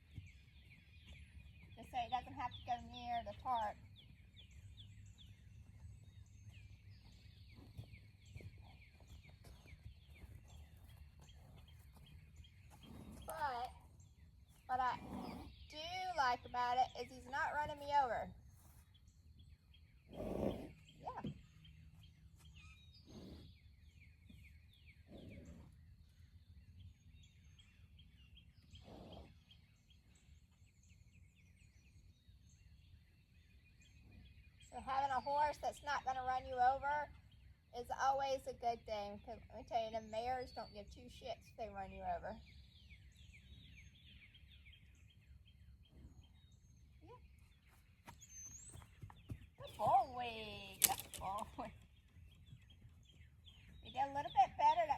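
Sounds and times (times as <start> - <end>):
bird chirping: 0.0 - 54.9.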